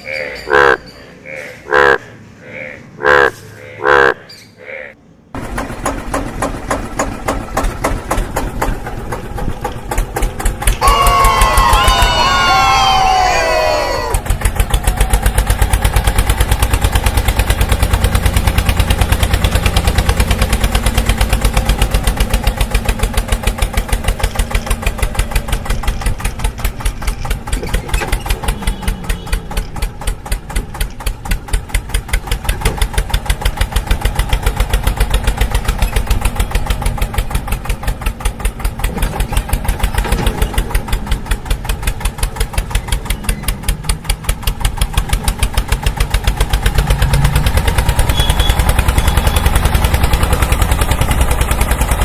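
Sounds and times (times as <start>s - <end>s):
mini tractor motor running: 5.4s - 52.0s.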